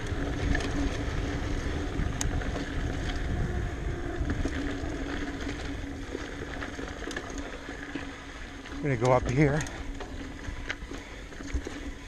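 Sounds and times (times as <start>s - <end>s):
steady low hum: 0.0s - 12.0s
wind rumbling on microphone: 0.0s - 12.0s.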